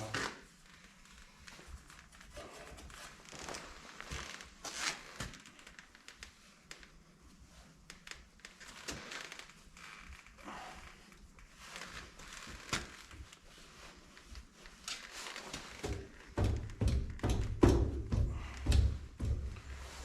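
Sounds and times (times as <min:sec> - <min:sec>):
seat materials rustling and crinkling: 0:00.0 - 0:06.9, 0:08.4 - 0:16.4, 0:18.3 - 0:20.0.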